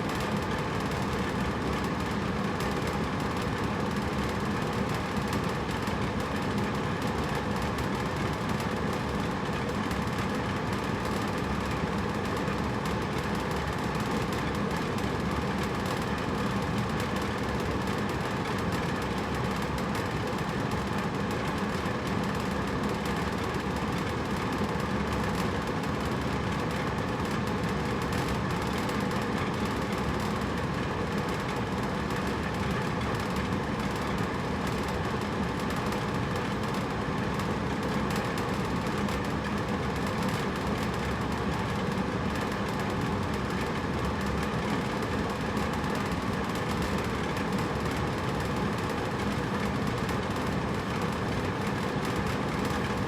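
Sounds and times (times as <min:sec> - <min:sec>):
air conditioner running: 0:00.0 - 0:53.0.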